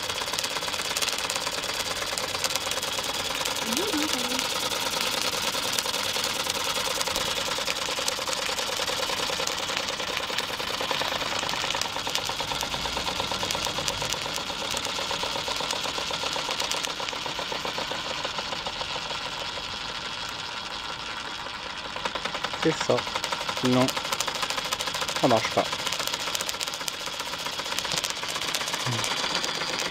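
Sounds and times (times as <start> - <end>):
toy steam engine beat: 0.0 - 29.9.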